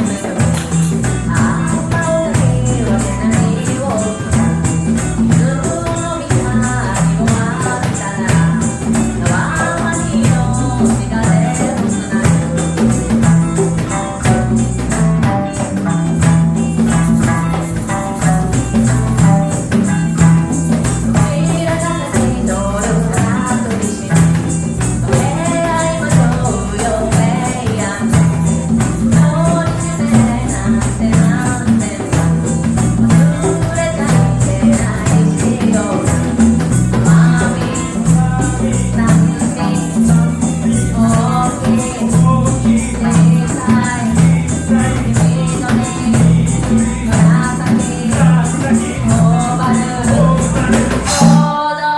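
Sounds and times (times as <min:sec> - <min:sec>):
bass line: 0:00.0 - 0:51.6
hand percussion: 0:00.0 - 0:51.7
live reggae band playing: 0:00.0 - 0:51.7.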